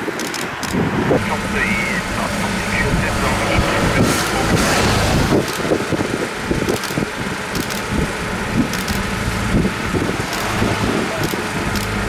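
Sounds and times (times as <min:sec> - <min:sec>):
road noise: 0:00.0 - 0:12.0
vehicle engines humming: 0:00.0 - 0:12.0
motorcycle passing close: 0:00.7 - 0:12.0.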